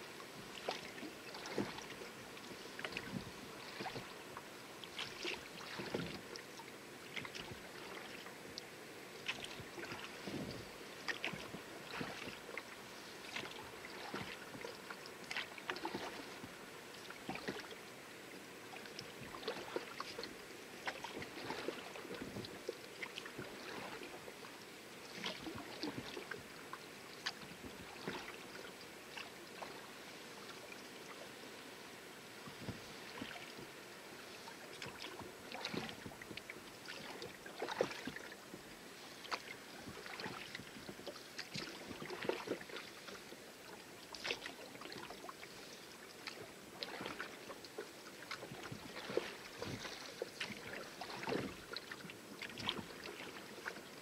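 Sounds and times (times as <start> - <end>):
water lapping against hull: 0.0 - 54.0
oars splashing in water: 0.5 - 8.3, 9.2 - 17.8, 18.7 - 24.4, 25.0 - 31.2, 32.5 - 54.0.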